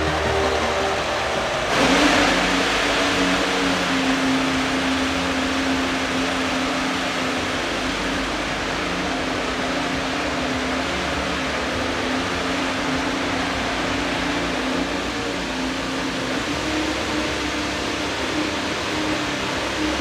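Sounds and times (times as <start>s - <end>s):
race car engine humming: 0.0s - 20.0s.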